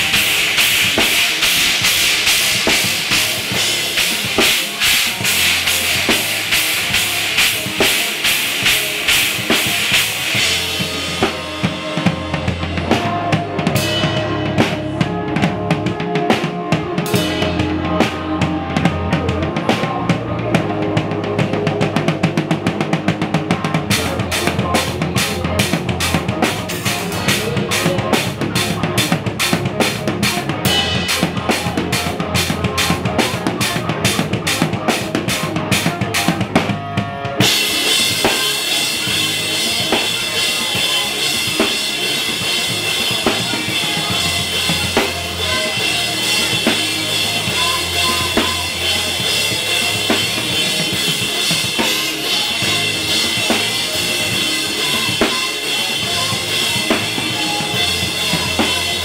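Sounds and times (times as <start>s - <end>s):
drum kit beat: 0.0s - 59.0s
live rock band playing: 0.0s - 59.0s.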